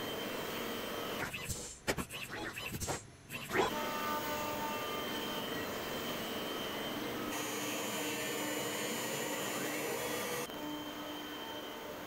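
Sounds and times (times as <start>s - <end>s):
router spindle whine: 2.1s - 12.0s.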